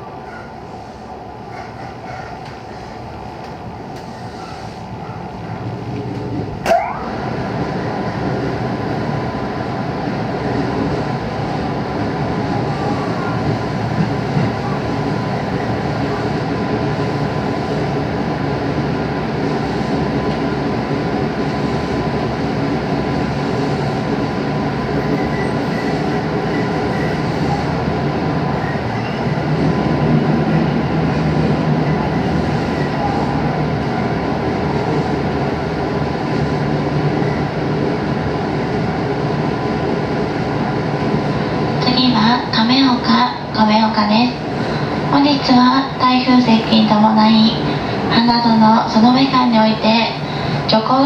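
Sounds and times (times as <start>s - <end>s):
train wheels and motors rumbling: 0.0s - 51.0s.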